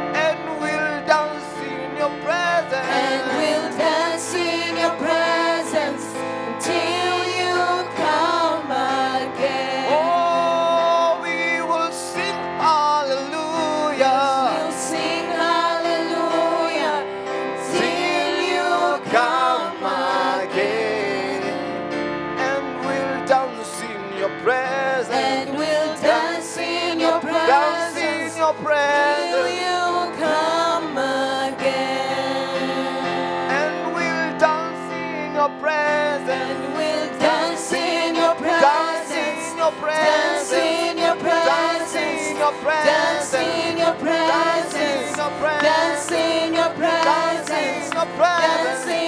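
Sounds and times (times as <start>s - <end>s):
gospel singers with instruments: 0.0s - 49.0s.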